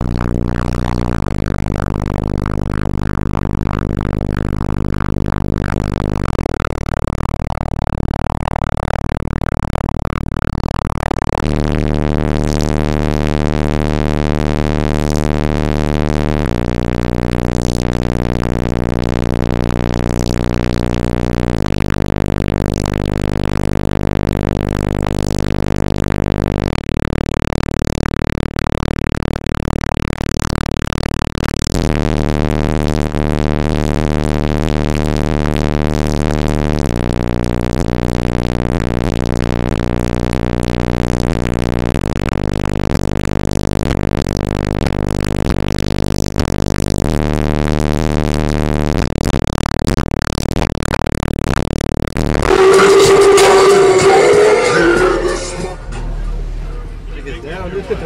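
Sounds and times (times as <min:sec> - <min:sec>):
distorted bass-heavy music: 0:00.0 - 0:58.0.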